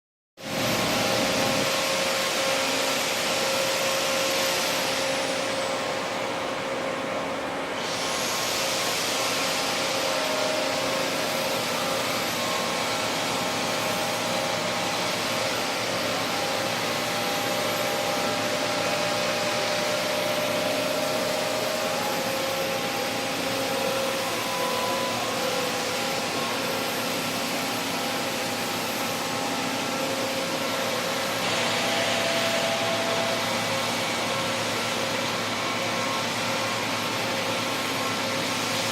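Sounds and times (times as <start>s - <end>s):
boring machine hissing and whining: 0.4s - 38.9s.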